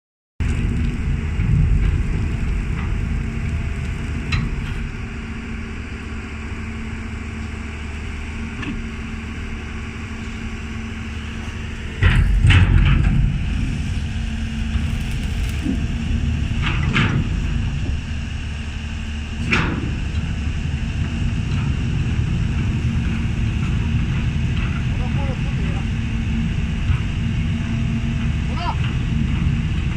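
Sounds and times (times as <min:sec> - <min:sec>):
diesel engine droning: 0:00.4 - 0:29.9.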